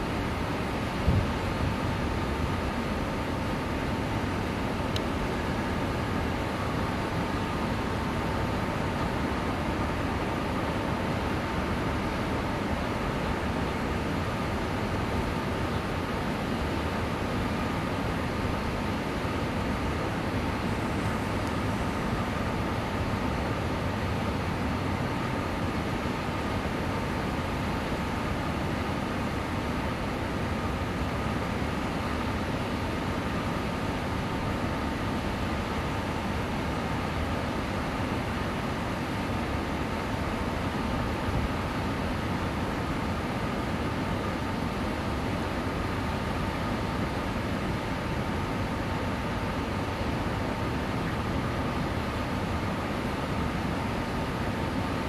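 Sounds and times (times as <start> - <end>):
faint high whine: 0.0 - 55.0
faint steady hum: 0.0 - 55.0.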